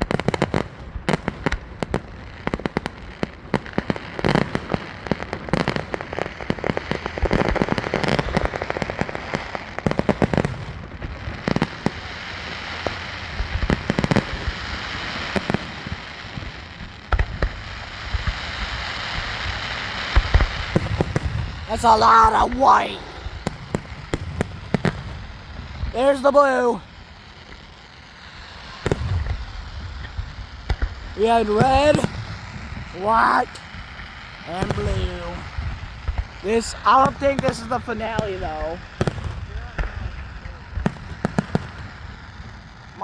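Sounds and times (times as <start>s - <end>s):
fireworks bangs and pops: 0.0s - 43.0s
fireworks crackling hiss: 0.0s - 43.0s.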